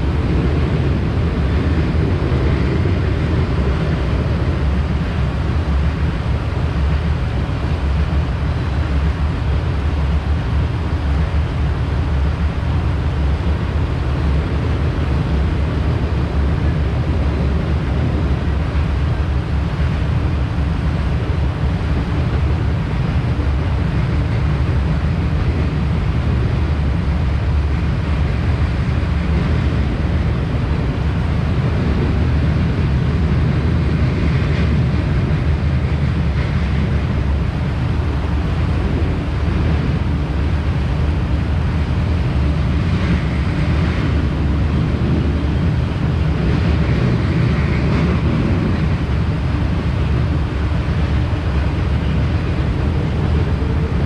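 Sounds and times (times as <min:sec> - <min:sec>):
freight train wheels rolling on rail: 0:00.0 - 0:54.0.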